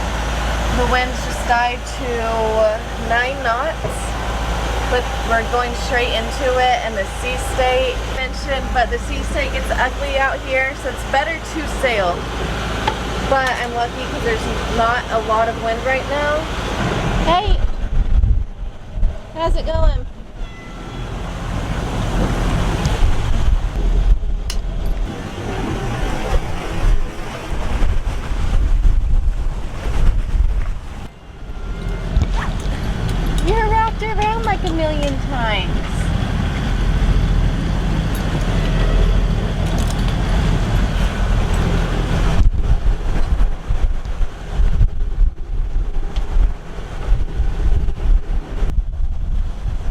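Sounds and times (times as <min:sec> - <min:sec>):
waves washing around boat: 0:00.0 - 0:18.0, 0:18.7 - 0:49.9
sea rushing: 0:00.0 - 0:49.9
wind buffeting microphone: 0:00.0 - 0:49.9.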